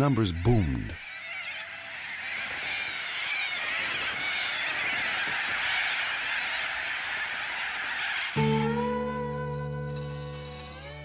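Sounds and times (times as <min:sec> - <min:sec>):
flock of birds calling: 0:00.0 - 0:09.3.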